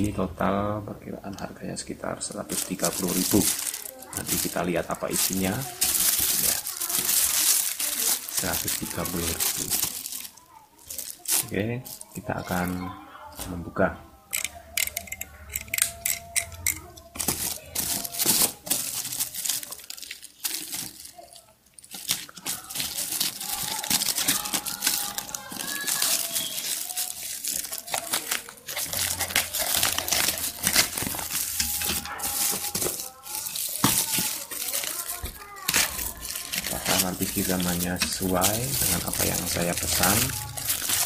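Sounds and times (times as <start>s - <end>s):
plastic wrapping crinkling: 1.4s - 12.7s, 14.3s - 41.0s.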